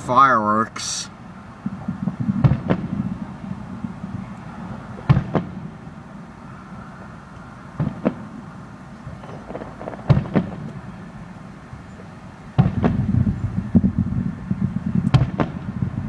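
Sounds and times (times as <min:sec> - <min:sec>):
distant fireworks bangs: 0:00.8 - 0:11.5, 0:12.4 - 0:16.0.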